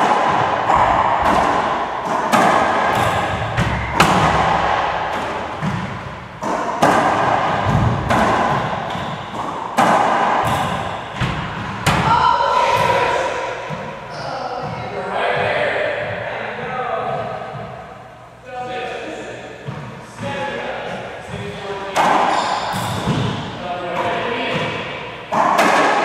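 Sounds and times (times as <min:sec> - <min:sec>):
racquetball hits echoing: 0:00.0 - 0:18.0, 0:19.6 - 0:26.0.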